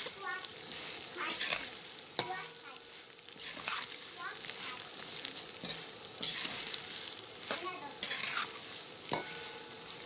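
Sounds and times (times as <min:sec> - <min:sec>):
light sizzle of oil: 0:00.0 - 0:10.0
spatula scraping dry strands: 0:00.0 - 0:10.0.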